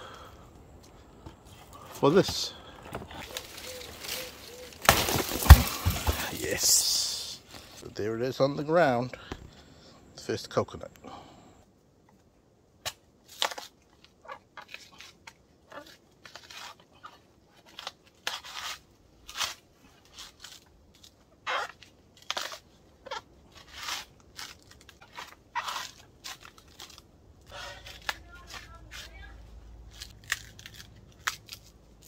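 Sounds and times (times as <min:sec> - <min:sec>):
coconut husk crunching and ripping: 0:00.1 - 0:07.8, 0:12.8 - 0:32.0.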